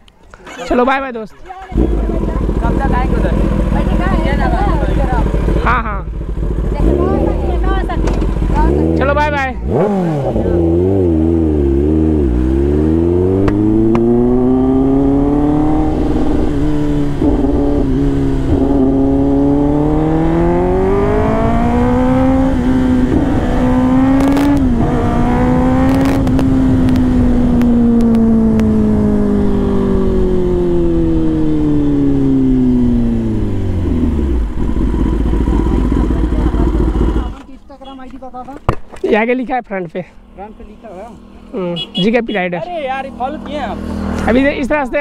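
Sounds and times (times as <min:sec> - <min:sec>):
motorcycle engine revving: 0:01.6 - 0:38.0, 0:40.0 - 0:45.0.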